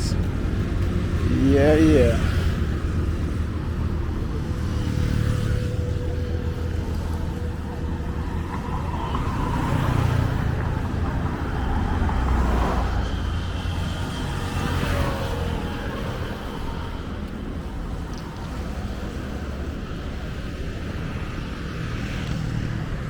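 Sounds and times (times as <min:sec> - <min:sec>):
traffic rumble: 0:00.0 - 0:23.0
vehicles passing close by: 0:00.0 - 0:23.0.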